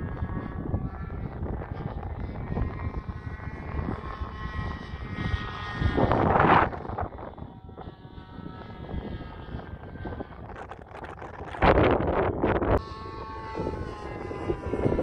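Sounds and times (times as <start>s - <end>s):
model airplane engine whine: 0.0s - 15.0s
wind rumbling on microphone: 0.0s - 15.0s.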